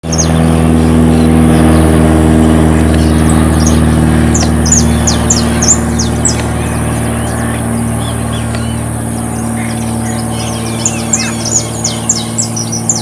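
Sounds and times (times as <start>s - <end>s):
propeller plane droning: 0.0s - 13.0s
small birds chirping: 0.0s - 13.0s.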